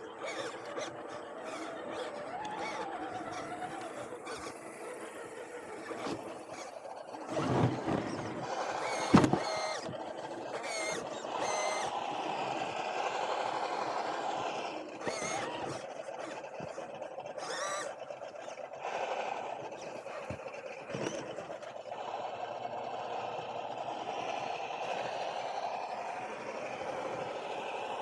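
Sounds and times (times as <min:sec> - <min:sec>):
electric motor whining: 0:00.0 - 0:28.0
steady running hum: 0:00.0 - 0:28.0.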